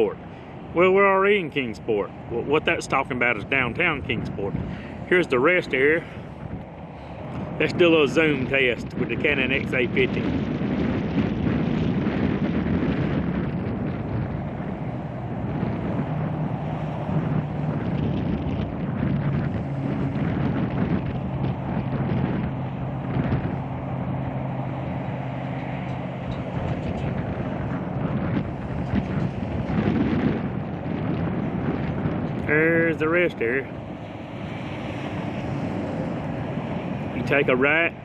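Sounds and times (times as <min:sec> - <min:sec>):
highway traffic noise: 0:00.0 - 0:38.0
low vehicle engine drone: 0:00.0 - 0:38.0
wind buffeting microphone: 0:00.0 - 0:38.0.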